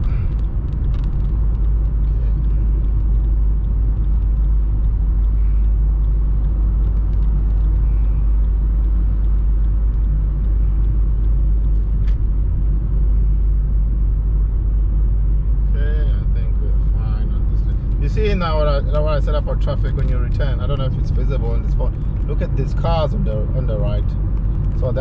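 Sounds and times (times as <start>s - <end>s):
car interior road rumble: 0.0s - 25.0s.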